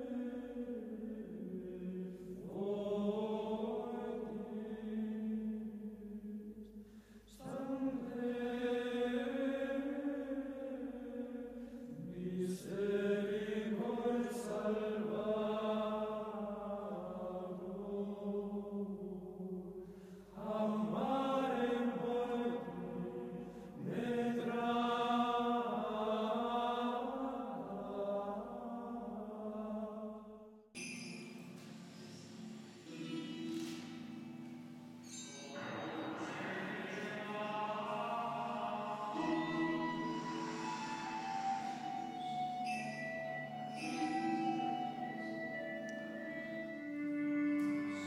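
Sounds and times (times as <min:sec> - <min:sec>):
voices singing a sacred chant: 0:00.0 - 0:06.6, 0:07.3 - 0:30.3, 0:35.5 - 0:48.0.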